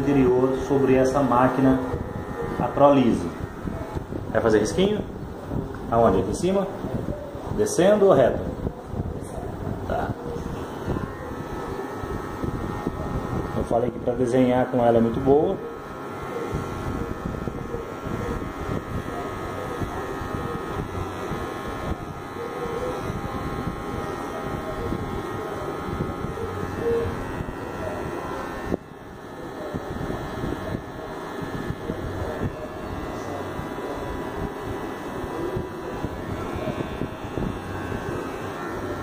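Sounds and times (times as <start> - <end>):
hair clipper running: 0.0 - 6.9, 7.8 - 39.0.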